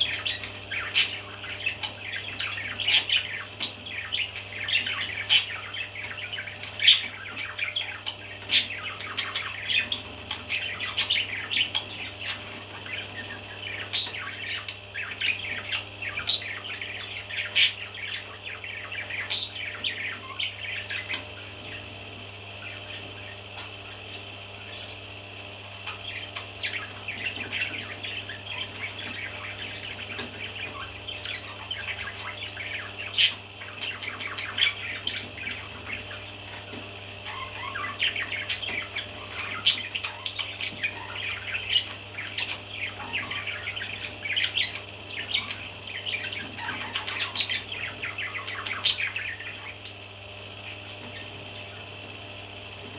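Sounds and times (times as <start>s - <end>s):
parrot chicks chirping and squawking: 0.0s - 52.9s
steady low hum: 0.0s - 52.9s.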